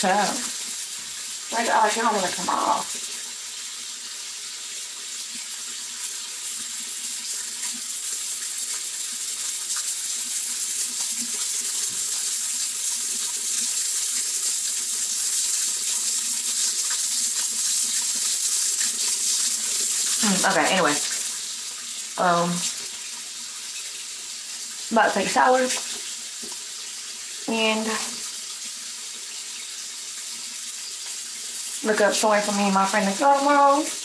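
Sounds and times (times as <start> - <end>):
running water hissing: 0.0 - 34.0.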